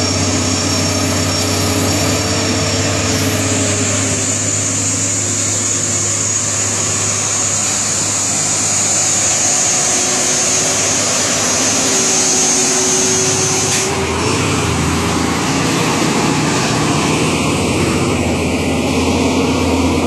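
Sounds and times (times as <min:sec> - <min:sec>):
truck diesel engine passing: 0:00.0 - 0:20.0.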